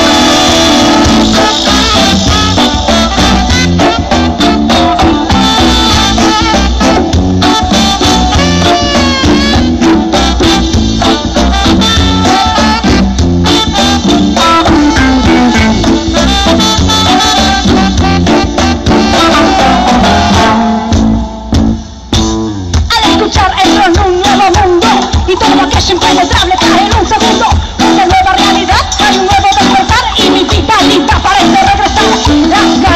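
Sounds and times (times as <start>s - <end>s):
live reggae band playing: 0.0s - 32.9s.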